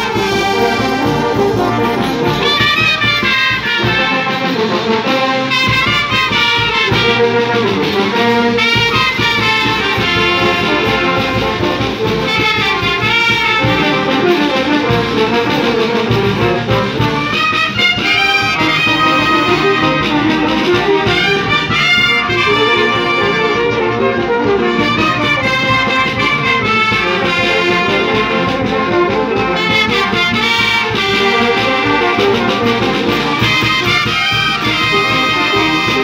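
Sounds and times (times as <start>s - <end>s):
brass band playing: 0.0s - 36.0s
drums beating: 0.0s - 36.0s.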